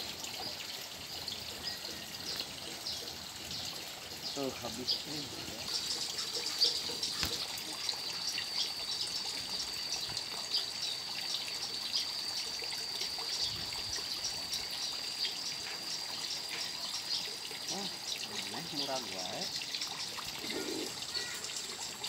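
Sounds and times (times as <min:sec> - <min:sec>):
water trickling into pond: 0:00.0 - 0:22.0.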